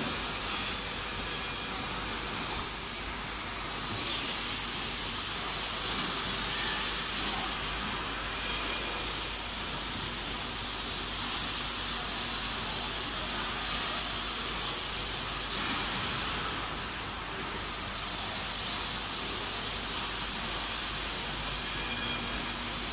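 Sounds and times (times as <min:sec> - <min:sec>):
high machine whine: 0:00.0 - 0:22.9
washing machine hiss: 0:00.0 - 0:22.9.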